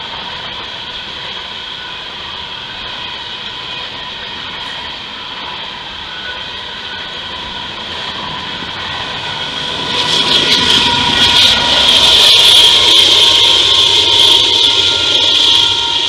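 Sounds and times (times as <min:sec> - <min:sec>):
diesel locomotive engines: 0:00.0 - 0:16.0
train wheels on rails: 0:00.0 - 0:16.0.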